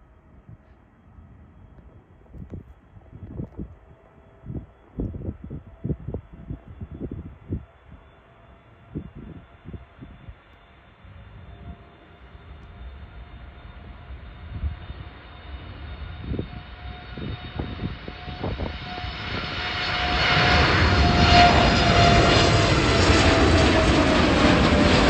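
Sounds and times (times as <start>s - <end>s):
jet engines roaring: 0.2s - 25.0s.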